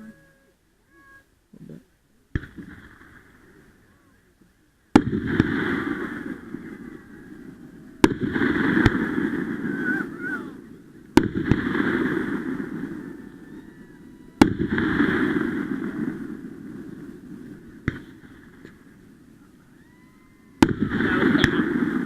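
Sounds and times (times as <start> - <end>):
fireworks crackle and rumble: 1.5 - 22.0
fireworks bangs: 1.6 - 3.8, 4.9 - 22.0.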